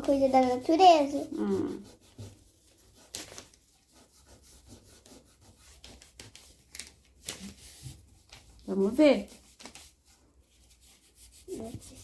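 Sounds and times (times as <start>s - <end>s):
scratching strokes on paper: 0.0s - 12.0s.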